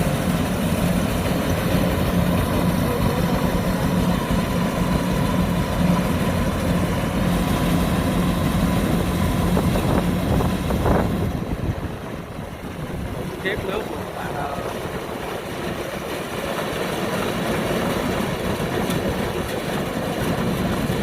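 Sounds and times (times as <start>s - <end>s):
combine harvester engine drone: 0.0s - 21.0s
high machinery whine: 0.0s - 21.0s.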